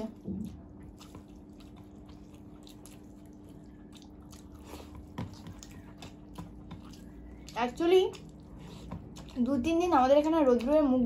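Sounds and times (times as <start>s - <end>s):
soft chewing with crunchy clicks: 0.0s - 11.0s.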